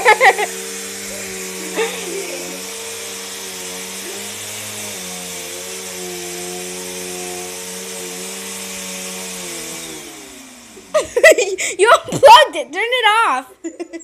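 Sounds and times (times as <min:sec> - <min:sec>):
vacuum cleaner motor humming: 0:00.0 - 0:11.8.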